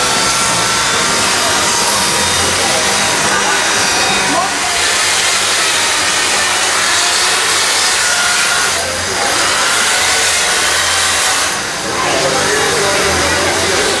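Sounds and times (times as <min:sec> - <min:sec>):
electric chainsaw cutting ice: 0:00.0 - 0:14.0.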